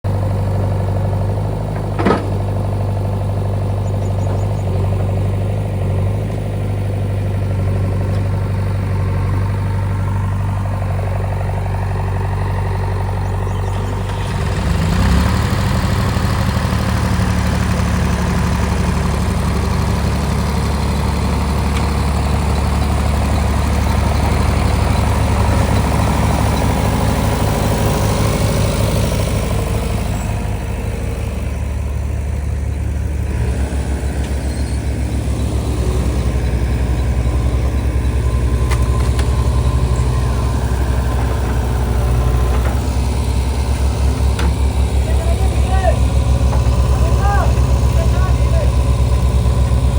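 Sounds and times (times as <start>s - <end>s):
digger diesel engine running: 0.0s - 49.9s.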